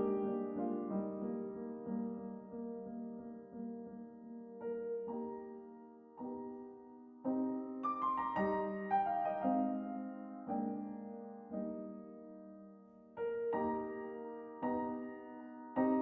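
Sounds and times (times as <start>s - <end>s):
soft solo piano music: 0.0s - 16.0s.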